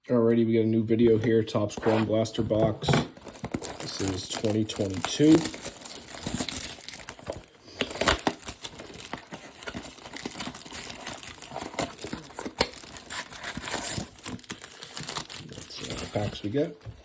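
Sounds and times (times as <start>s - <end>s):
plastic and cardboard crinkling: 0.9s - 17.0s
packaging ripping: 1.8s - 16.7s.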